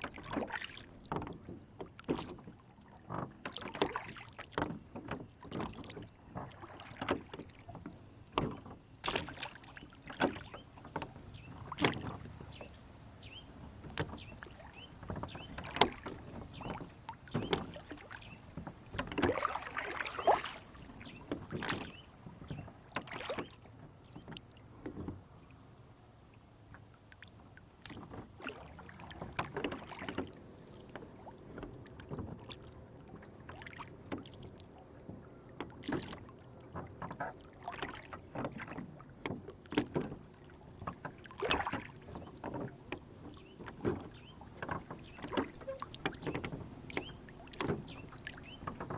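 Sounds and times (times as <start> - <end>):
oars knocking against hull: 0.0 - 25.4, 27.8 - 48.9
oars splashing water: 0.0 - 48.9
water gently lapping: 0.0 - 48.9.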